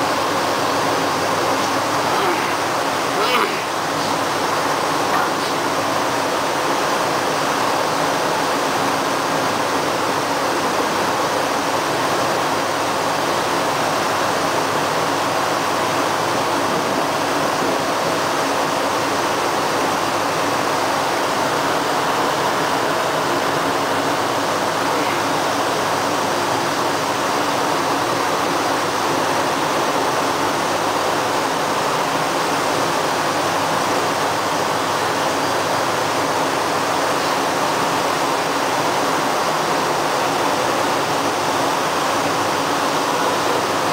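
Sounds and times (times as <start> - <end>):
water rushing and churning: 0.0 - 43.9.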